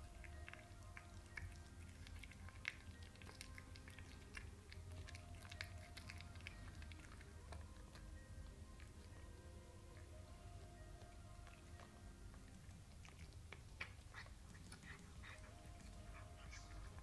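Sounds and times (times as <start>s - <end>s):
cat chewing wetly: 0.0s - 17.0s.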